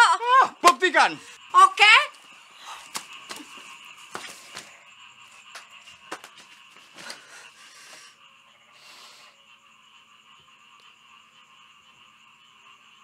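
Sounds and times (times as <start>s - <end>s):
insects and frogs chorus: 0.0s - 13.0s.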